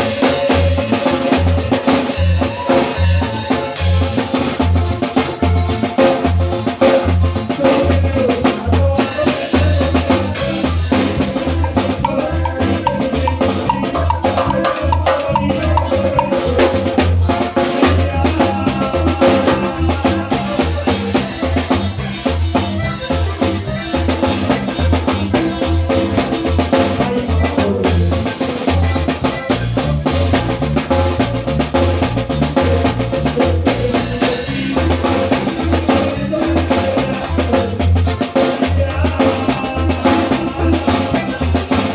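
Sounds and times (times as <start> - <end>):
drum kit and bass beat: 0.0 - 41.9.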